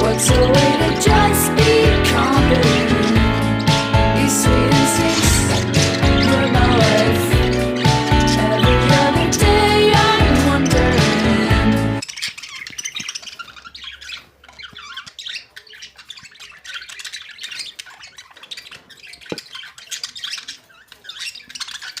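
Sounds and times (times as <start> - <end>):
budgerigars chattering: 0.0 - 22.0.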